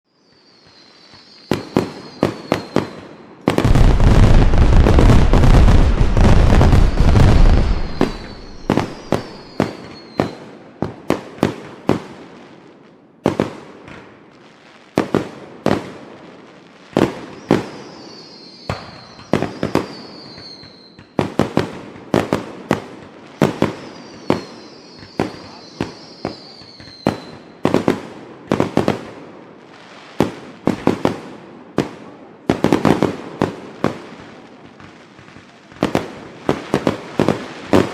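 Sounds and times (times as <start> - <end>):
fireworks falling whistles: 0.1 - 12.6, 13.3 - 37.9
fireworks bangs: 0.2 - 37.9.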